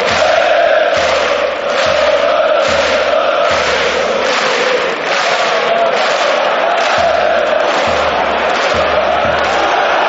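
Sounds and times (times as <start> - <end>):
stadium crowd chanting: 0.0 - 10.0
steady low beat: 0.0 - 10.0.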